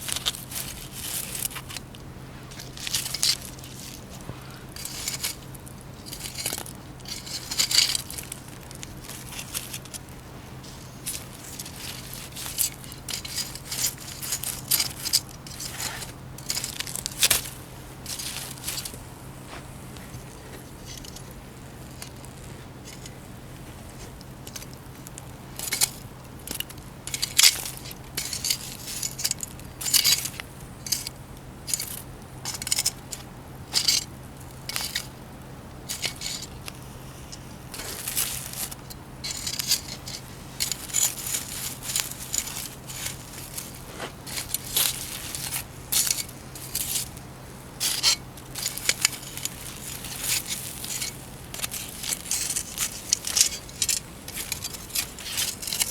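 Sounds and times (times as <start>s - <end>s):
scraping and clinking handling noises: 0.0s - 55.9s
steady low hum: 0.0s - 55.9s.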